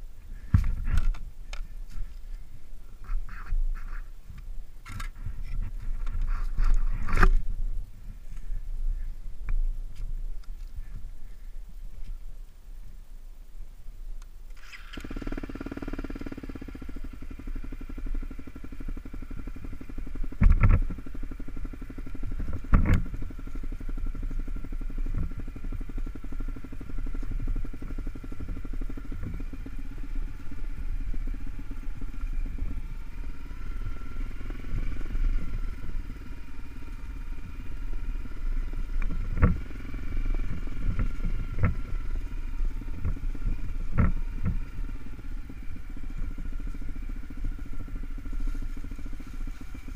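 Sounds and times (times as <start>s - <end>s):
motorcycle engine running: 0.0s - 12.8s, 14.4s - 49.9s.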